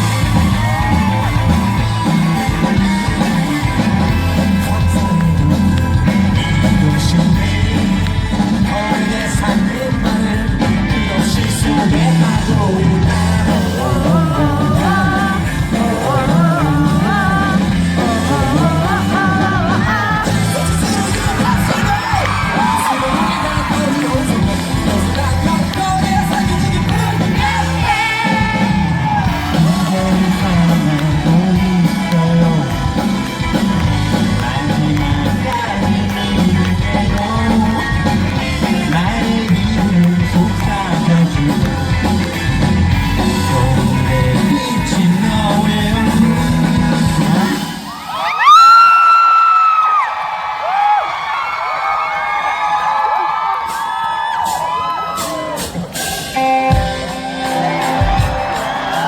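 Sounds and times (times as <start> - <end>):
lead vocal singing: 0.0 - 48.2
crowd yelling: 0.0 - 59.0
live pop-rock band: 0.0 - 59.0.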